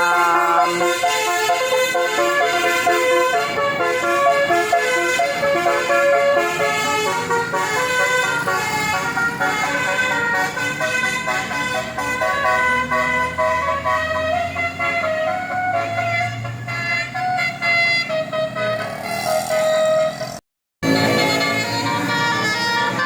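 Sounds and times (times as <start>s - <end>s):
musical air horn playing a tune: 0.0s - 20.2s, 20.8s - 23.0s
bus engine drone: 0.0s - 23.0s.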